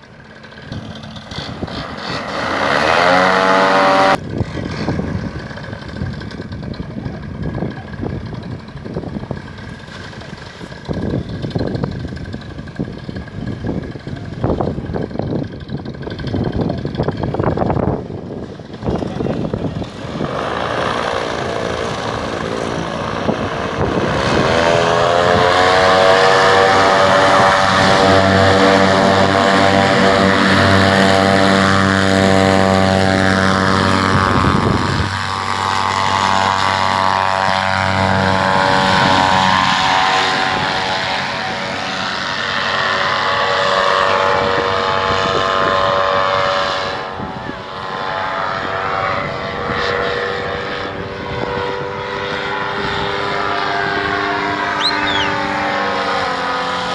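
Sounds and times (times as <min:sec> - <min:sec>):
paramotor engine and propeller revving: 0:00.0 - 0:56.9.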